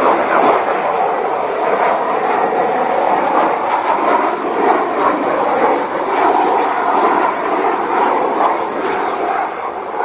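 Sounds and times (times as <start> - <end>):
jet engines droning: 0.0 - 10.0.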